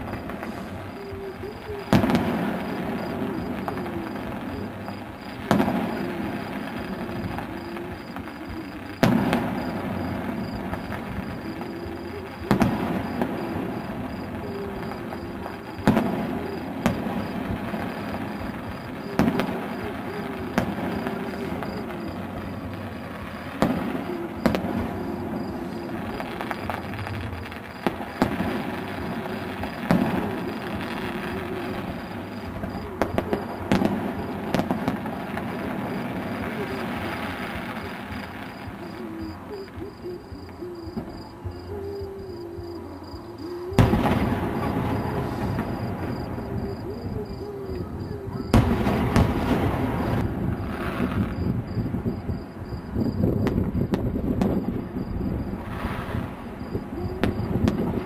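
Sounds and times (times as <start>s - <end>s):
distant firework bangs: 0.0s - 58.0s.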